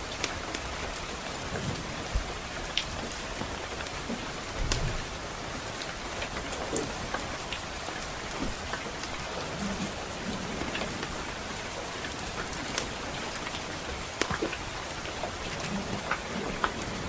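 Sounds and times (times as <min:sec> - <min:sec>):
steady rain falling: 0:00.0 - 0:17.0
wood fire crackling: 0:00.0 - 0:17.0.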